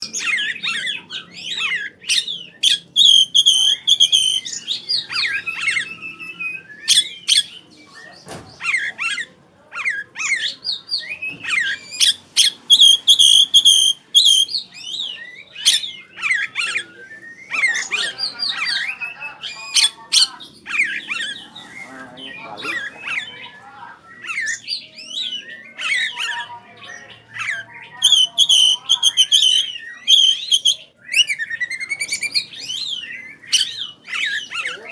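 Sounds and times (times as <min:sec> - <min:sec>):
bird song whistled phrases: 0:00.0 - 0:34.9.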